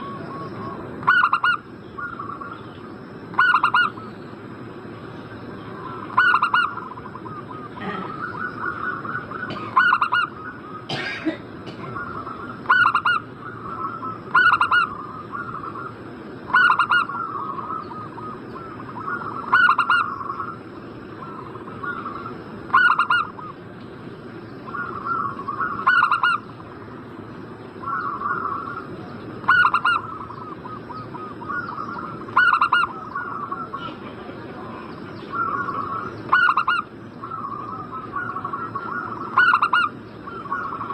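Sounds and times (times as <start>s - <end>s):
doves cooing: 0.0s - 4.5s, 5.2s - 40.9s.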